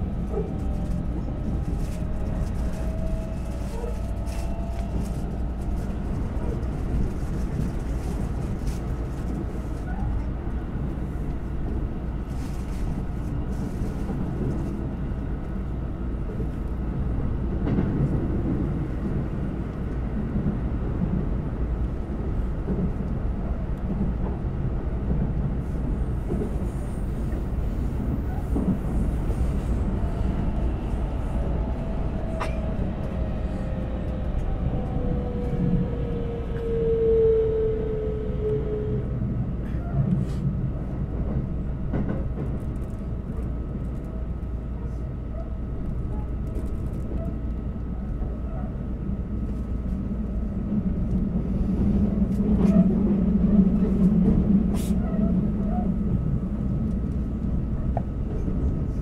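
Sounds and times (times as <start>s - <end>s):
rumble of train wheels on rail: 0.0s - 59.0s.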